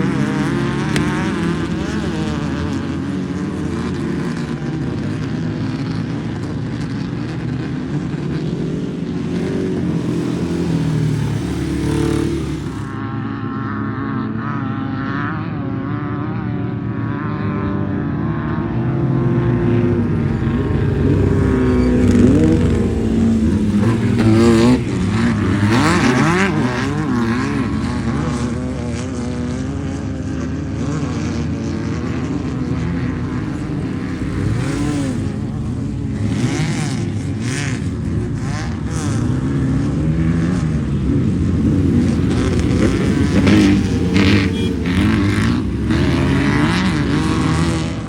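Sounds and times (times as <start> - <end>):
race vehicle engines revving: 0.0 - 13.3, 17.1 - 48.0.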